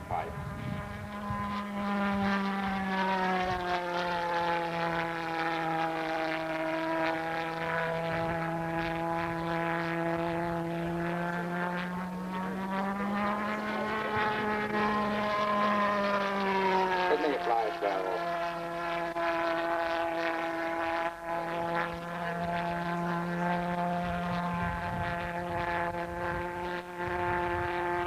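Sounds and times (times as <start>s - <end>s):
pulse-jet engine buzzing: 0.0s - 28.0s.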